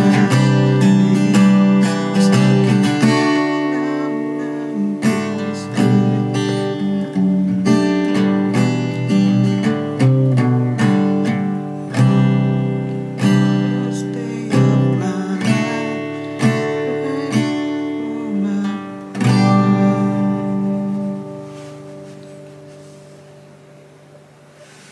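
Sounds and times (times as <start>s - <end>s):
acoustic guitar strumming chords: 0.0s - 24.9s.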